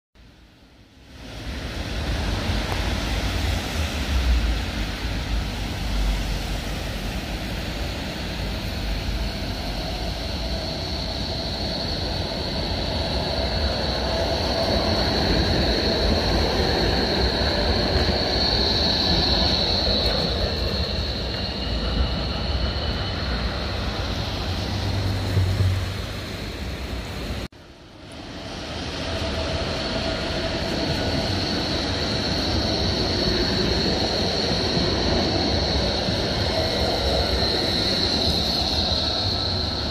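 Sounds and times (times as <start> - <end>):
tram passing with high whine: 0.2 - 39.9
tyres hissing on wet road: 0.2 - 39.9
low traffic rumble: 0.3 - 39.9.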